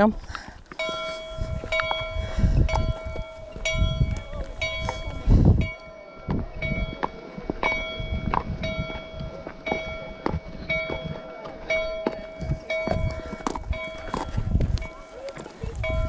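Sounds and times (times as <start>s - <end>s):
church bell tolling: 0.8s - 15.2s.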